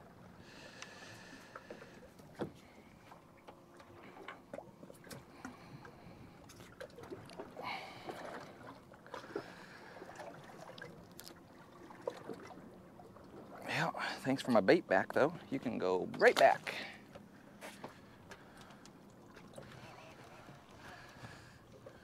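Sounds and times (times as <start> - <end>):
water lapping against boat hull: 0.3 - 22.0.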